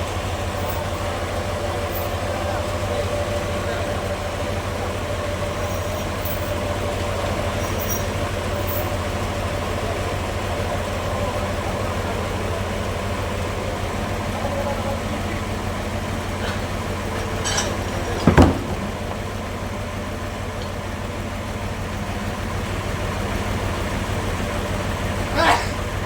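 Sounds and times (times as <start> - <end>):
machinery engine idling: 0.0 - 26.0.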